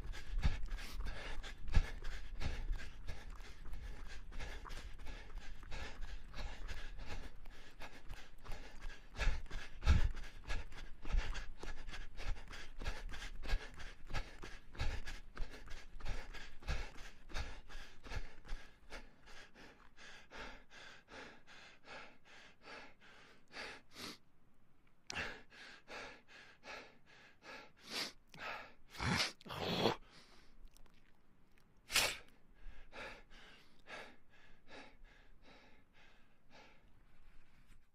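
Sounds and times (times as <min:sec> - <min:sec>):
person panting hard: 0:00.0 - 0:24.2, 0:25.1 - 0:29.3, 0:32.0 - 0:37.8.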